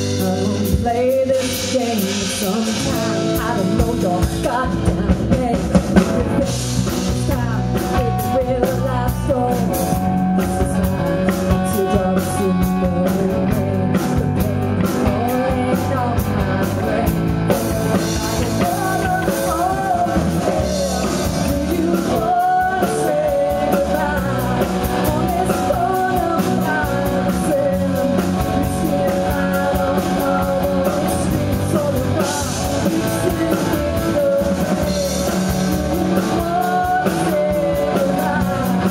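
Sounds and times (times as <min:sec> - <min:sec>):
drum kit: 0:00.0 - 0:38.9
electric bass: 0:00.0 - 0:38.9
electric guitar: 0:00.0 - 0:38.9
woman singing: 0:00.0 - 0:38.9.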